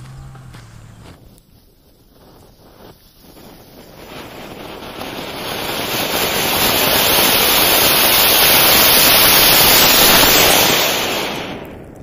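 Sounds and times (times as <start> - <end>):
firework fountain hissing: 1.2 - 12.0.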